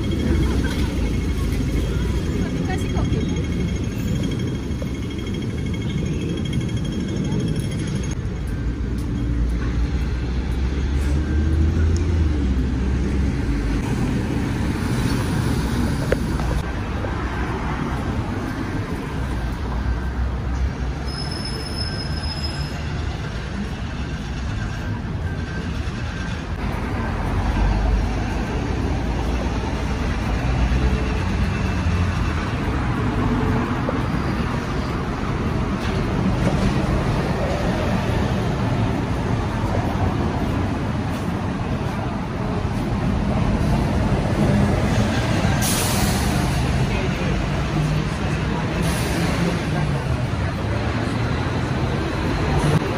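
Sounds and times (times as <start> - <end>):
city road traffic: 0.0 - 52.9.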